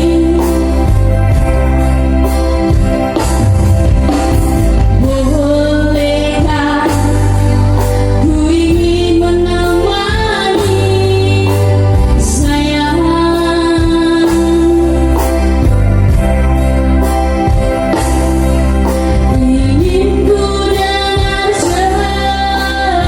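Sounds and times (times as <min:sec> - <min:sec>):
instrumental accompaniment with low bass: 0:00.0 - 0:23.0.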